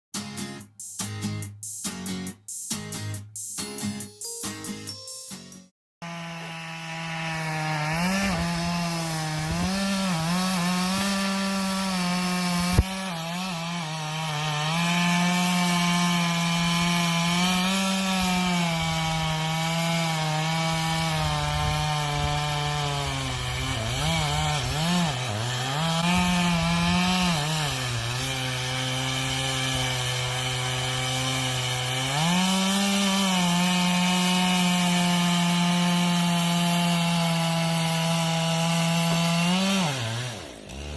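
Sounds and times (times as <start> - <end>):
chainsaw cutting wood: 6.0 - 40.9.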